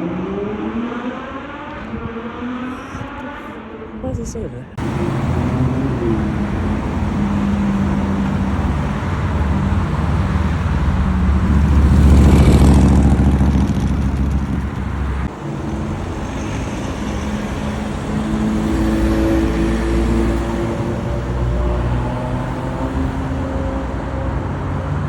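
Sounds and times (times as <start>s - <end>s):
sports car engine: 0.0s - 4.0s, 4.7s - 25.0s.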